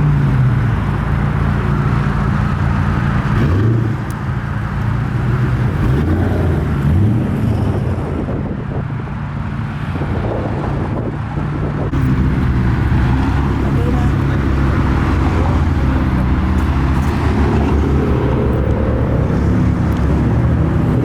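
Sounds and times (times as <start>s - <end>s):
supercar engine revving: 0.0s - 8.8s, 11.6s - 21.0s.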